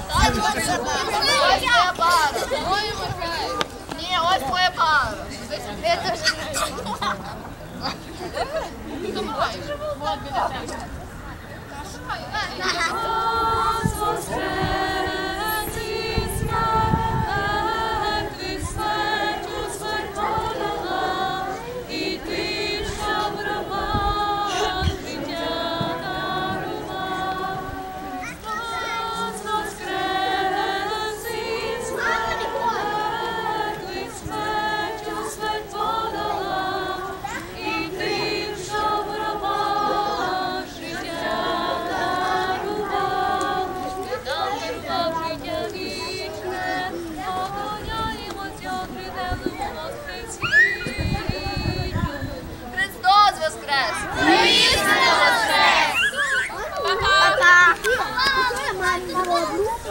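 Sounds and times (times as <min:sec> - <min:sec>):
group singing unaccompanied: 0:00.0 - 0:11.0, 0:12.0 - 0:59.9.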